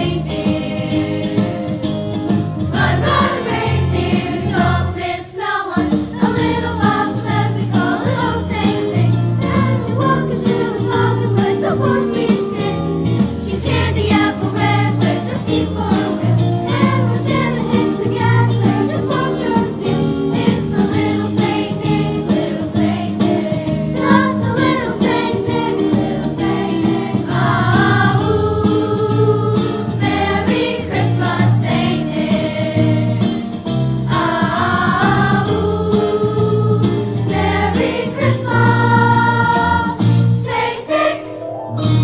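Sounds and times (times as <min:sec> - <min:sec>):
choir singing: 0:00.0 - 0:01.7, 0:02.7 - 0:33.4, 0:34.1 - 0:41.4
instrumental accompaniment: 0:00.0 - 0:42.0.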